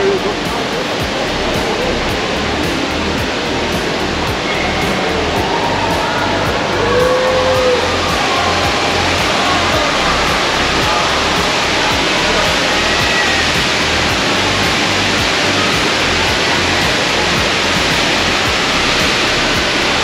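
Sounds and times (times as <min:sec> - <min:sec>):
indoor waterfall rushing: 0:00.0 - 0:20.0.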